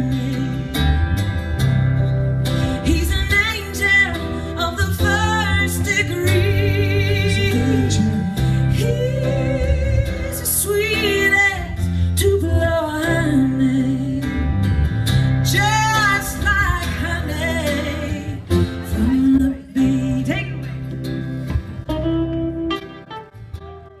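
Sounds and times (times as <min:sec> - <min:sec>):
woman singing: 0:00.0 - 0:01.0, 0:02.7 - 0:21.0
acoustic guitar: 0:00.0 - 0:24.0
electric guitar: 0:00.0 - 0:24.0.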